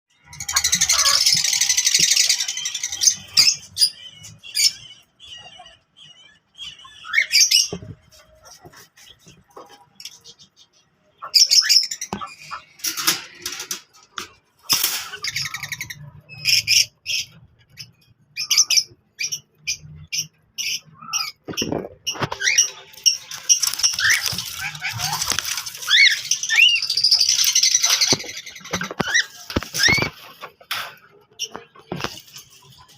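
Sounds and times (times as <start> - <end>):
parrots squawking and chirping: 0.1 - 32.9.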